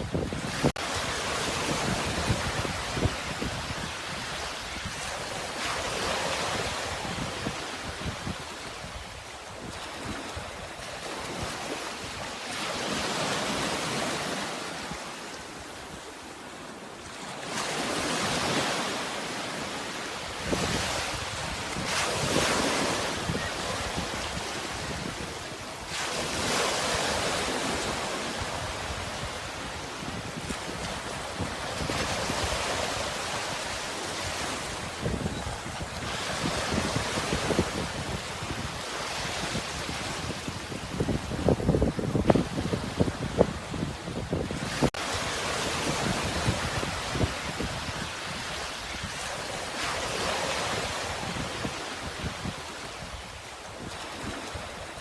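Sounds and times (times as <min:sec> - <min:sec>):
wind rumbling on microphone: 0:00.0 - 0:12.3, 0:20.3 - 0:55.0
sea waves breaking on shore: 0:00.0 - 0:55.0.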